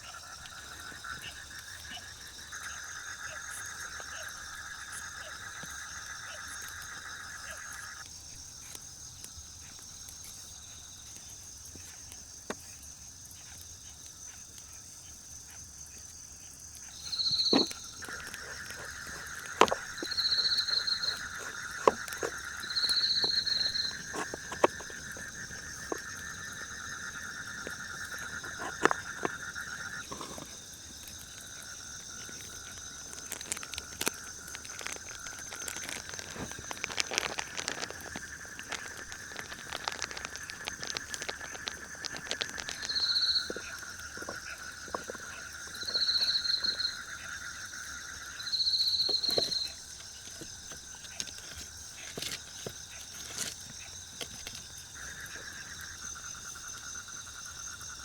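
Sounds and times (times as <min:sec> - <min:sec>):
frog and insect chorus trilling: 0:00.0 - 0:58.0.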